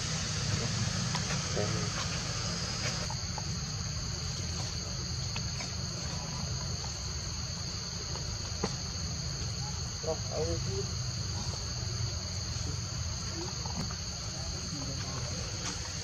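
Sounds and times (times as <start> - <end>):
constant low rumble: 0.0 - 16.0
insects droning: 0.0 - 16.0.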